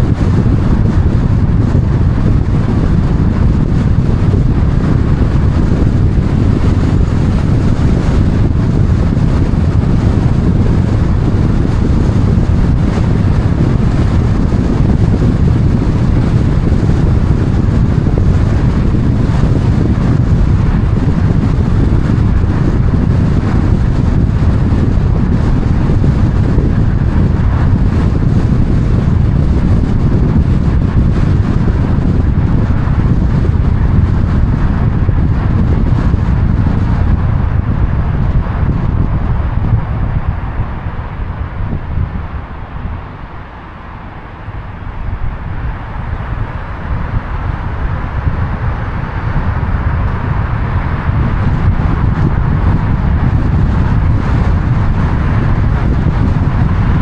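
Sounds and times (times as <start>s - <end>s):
road traffic: 0.0s - 57.0s
wind: 0.0s - 57.0s.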